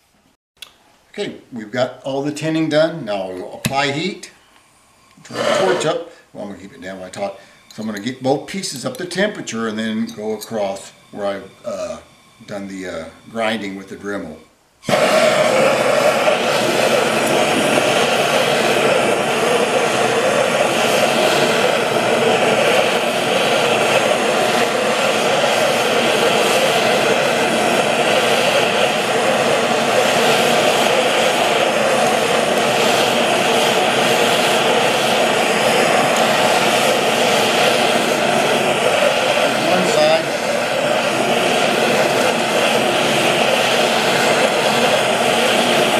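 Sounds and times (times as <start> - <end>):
gas torch flame rushing: 3.1 - 45.9.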